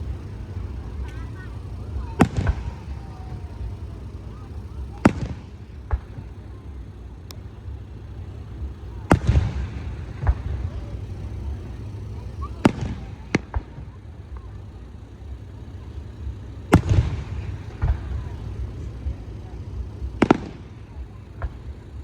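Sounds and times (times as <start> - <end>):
fireworks shells banging: 0.0 - 22.0
low rolling rumble: 0.0 - 22.0.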